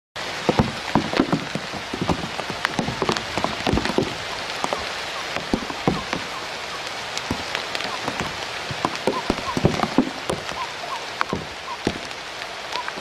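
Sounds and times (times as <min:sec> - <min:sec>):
rain pattering on leaves: 0:00.2 - 0:13.0.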